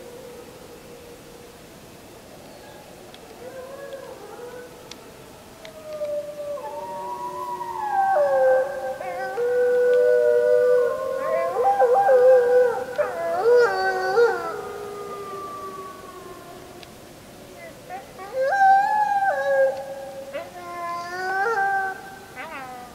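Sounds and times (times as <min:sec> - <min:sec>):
wolves howling: 0:02.5 - 0:17.0, 0:17.6 - 0:22.9.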